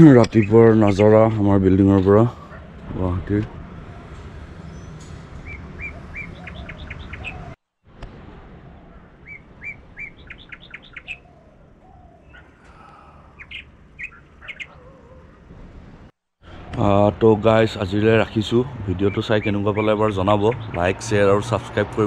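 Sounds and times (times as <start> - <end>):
small birds chirping: 0.0 - 7.6, 8.7 - 15.4, 17.8 - 21.3.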